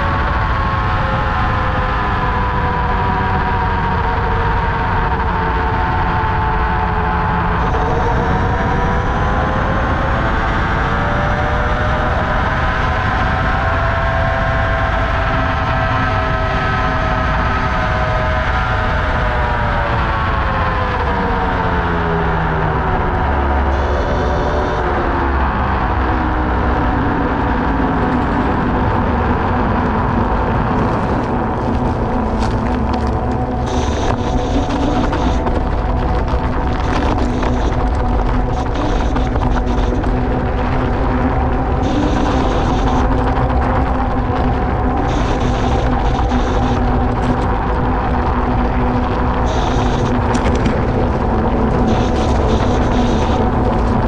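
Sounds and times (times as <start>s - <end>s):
electric motor whine: 0.0s - 54.0s
wind and road rumble: 0.0s - 54.0s.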